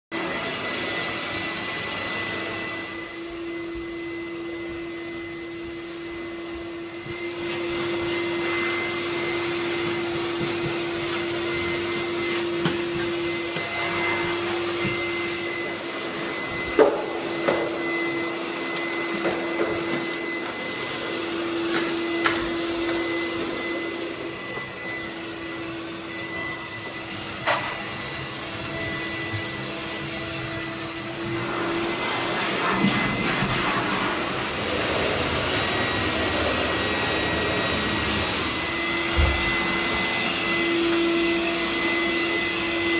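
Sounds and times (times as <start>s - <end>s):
vacuum cleaner motor whine: 0.1s - 42.9s.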